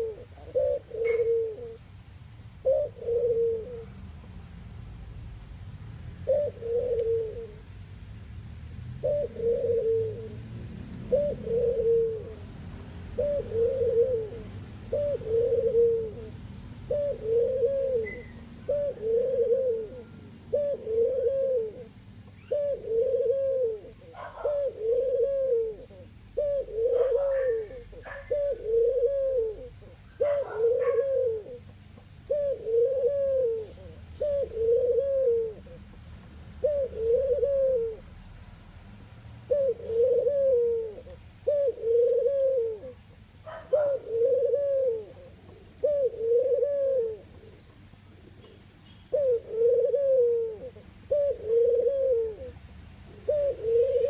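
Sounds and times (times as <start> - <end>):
dove cooing: 0.0 - 1.9, 2.6 - 4.1, 6.2 - 7.7, 9.0 - 38.2, 39.4 - 54.0.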